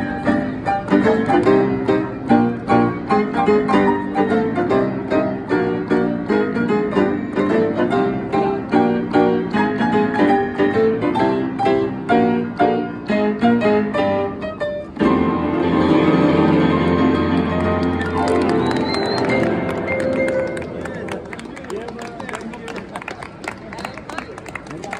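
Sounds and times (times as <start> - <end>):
piano played four hands: 0.0 - 21.3.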